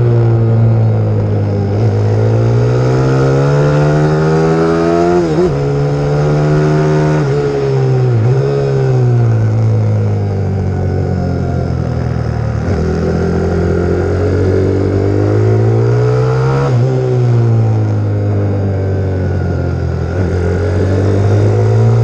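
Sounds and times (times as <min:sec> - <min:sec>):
motorbike engine accelerating: 0:00.0 - 0:22.0.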